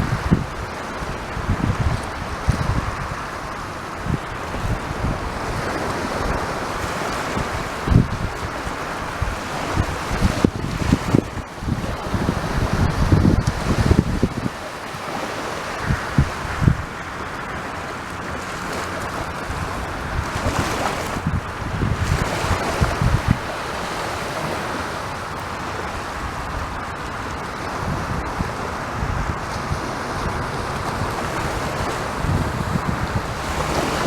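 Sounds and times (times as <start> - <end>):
sea waves breaking: 0.0 - 34.0
wind buffeting microphone: 0.0 - 34.0.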